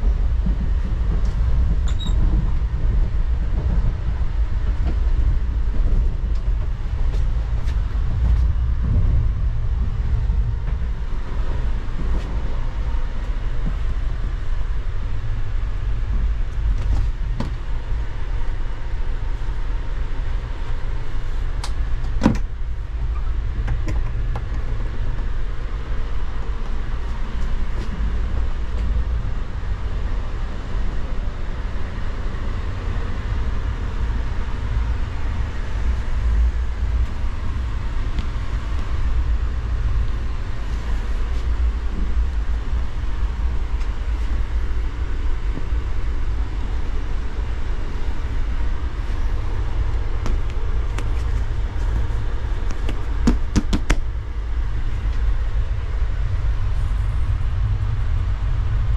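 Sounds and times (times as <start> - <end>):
train carriage rumbling in motion: 0.0 - 58.9.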